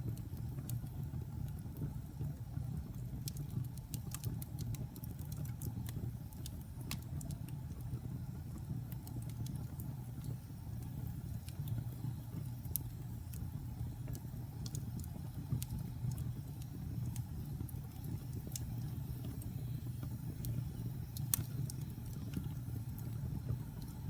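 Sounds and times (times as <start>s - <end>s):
fire flames rumbling: 0.0s - 24.0s
wood fire crackling and popping: 0.0s - 24.0s.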